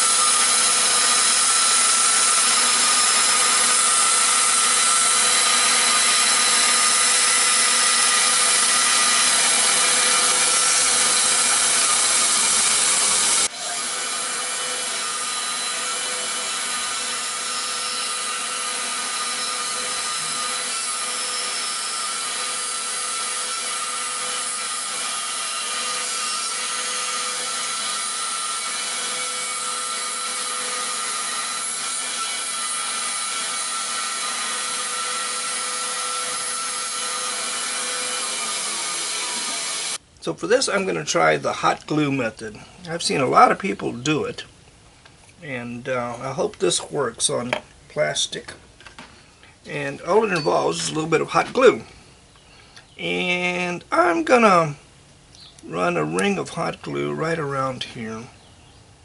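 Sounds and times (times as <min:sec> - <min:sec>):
band saw cutting plastic: 0:00.0 - 0:44.4, 0:45.3 - 0:51.9, 0:55.6 - 0:58.2.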